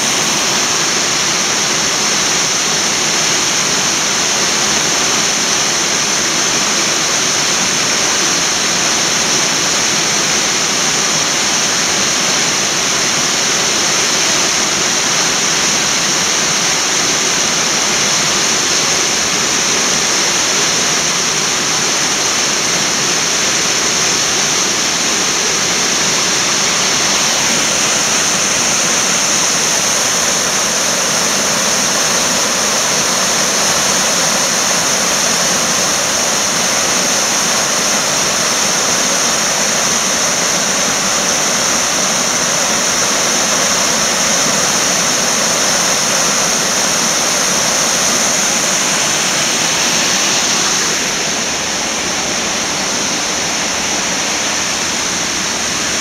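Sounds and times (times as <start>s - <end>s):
creek rapids rushing: 0.0s - 56.0s
small waterfall over rock: 0.0s - 56.0s.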